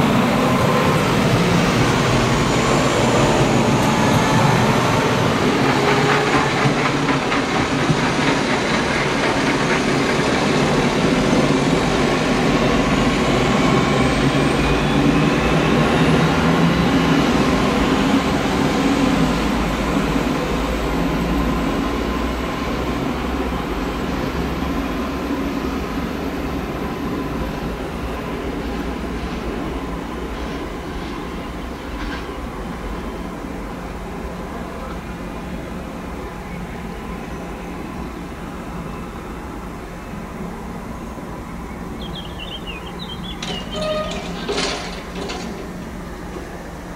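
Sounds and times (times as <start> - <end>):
diesel train running on track: 0.0 - 46.9.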